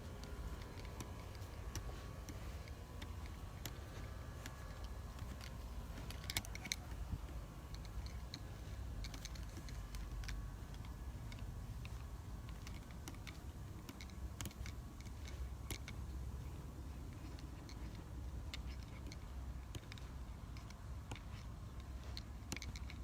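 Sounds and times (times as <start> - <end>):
faint low rumble: 0.0 - 23.0
light clicks and ticks: 0.0 - 23.0.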